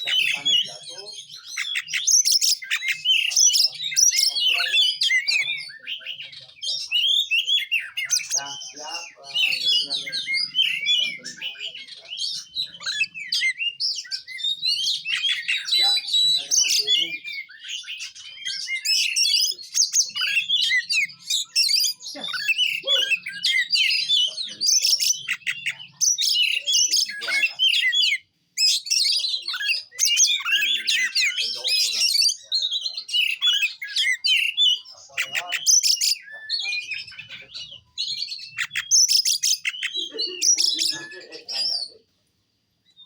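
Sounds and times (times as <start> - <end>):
bird singing varied song: 0.0 - 43.0.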